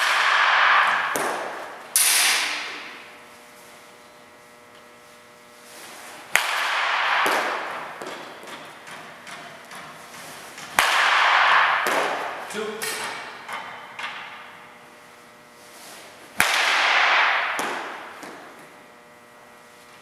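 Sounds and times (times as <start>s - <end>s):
baseball bat hitting balls: 0.0s - 3.2s, 5.6s - 18.9s.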